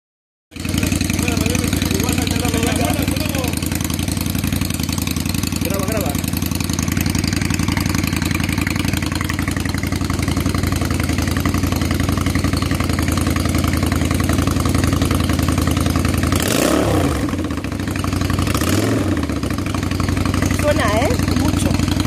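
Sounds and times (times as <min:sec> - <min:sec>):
engine idling and revving: 0:00.5 - 0:22.0.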